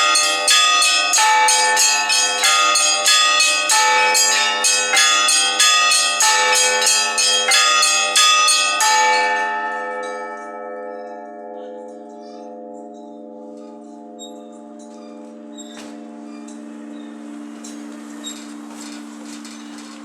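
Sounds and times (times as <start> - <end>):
church bells struck by hand: 0.0 - 17.0
sustained hum of big bells: 0.0 - 20.0.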